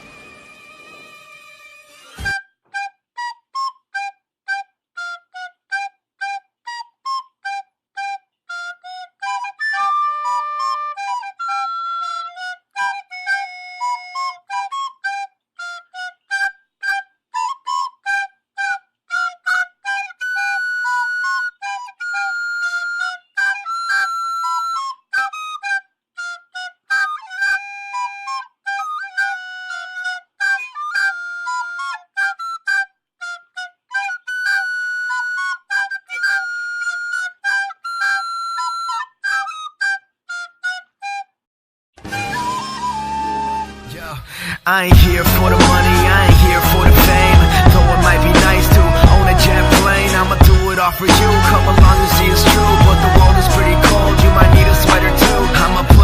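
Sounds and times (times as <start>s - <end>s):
bouncy tune on whistly instrument: 2.1s - 41.4s, 42.0s - 56.0s.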